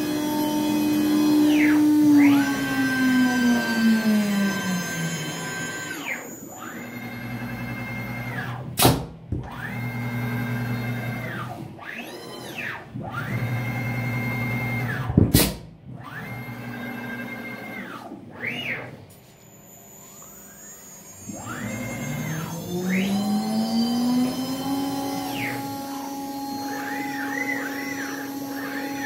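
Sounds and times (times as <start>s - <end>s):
motors whining: 0.0s - 8.8s, 9.4s - 15.1s, 15.9s - 29.0s.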